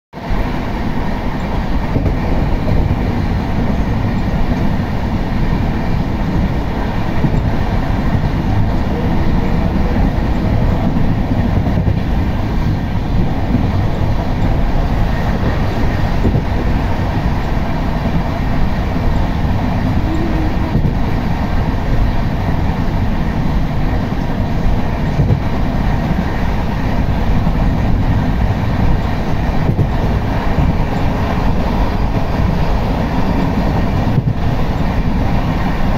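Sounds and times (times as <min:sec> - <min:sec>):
train carriage rumbling on track: 0:00.1 - 0:35.9.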